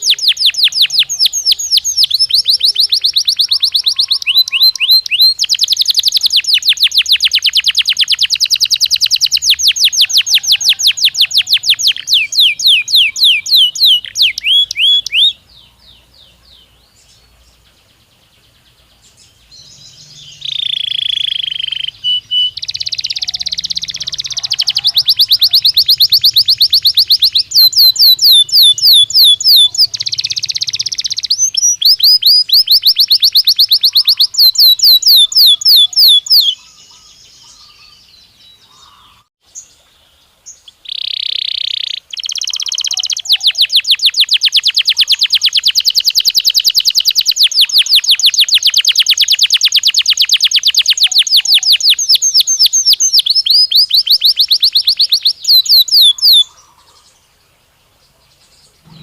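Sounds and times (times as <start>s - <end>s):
canary singing in rapid trills: 0.0s - 39.3s, 40.7s - 57.1s.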